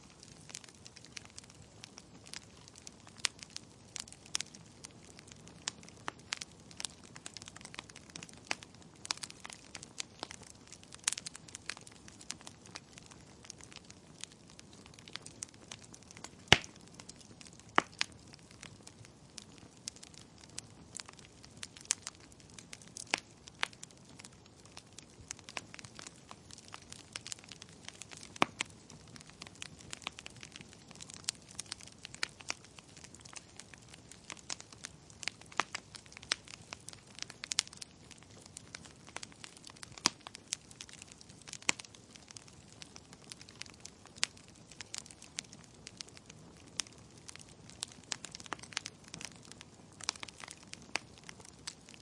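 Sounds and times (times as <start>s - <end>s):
faint steady hiss: 0.0s - 52.0s
logs crackling and popping: 0.0s - 52.0s.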